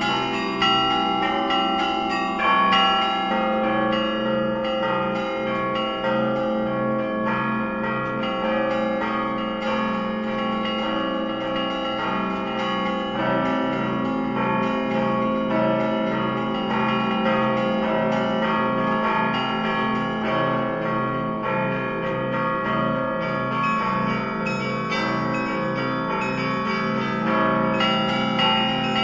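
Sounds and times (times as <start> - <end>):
lower bells pulse: 0.0 - 29.0
small church bells ringing: 0.0 - 29.0.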